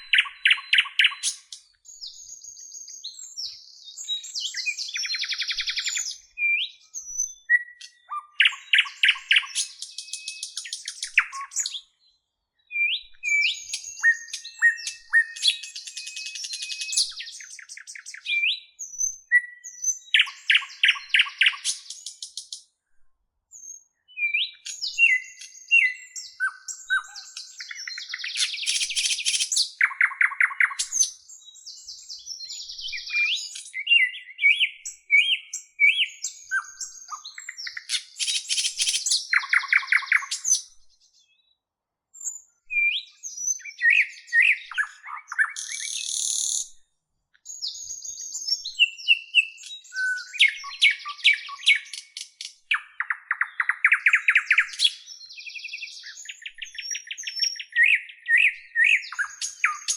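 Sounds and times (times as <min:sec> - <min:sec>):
songbird singing whistles and trills: 0:00.0 - 0:22.7, 0:23.5 - 0:59.9.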